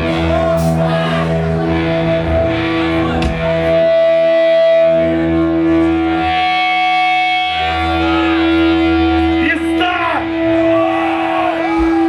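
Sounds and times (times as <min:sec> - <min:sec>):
bass guitar sustained notes: 0:00.0 - 0:12.0
electric guitar sustained notes: 0:00.0 - 0:12.0.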